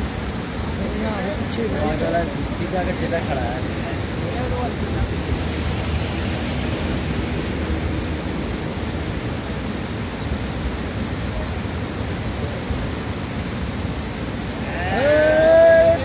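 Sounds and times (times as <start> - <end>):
river rushing in flood: 0.0 - 16.0.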